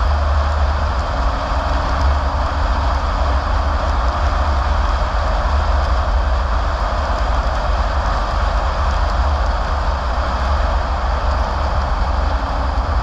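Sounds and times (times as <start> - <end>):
car driving on paved road: 0.0 - 13.0.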